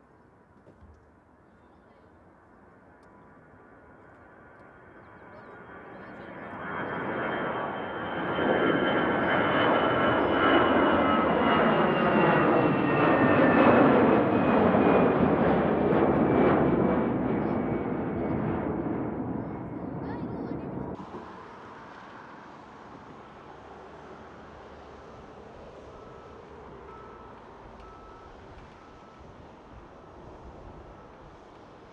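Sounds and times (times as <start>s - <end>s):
jet plane passing: 2.8s - 31.9s.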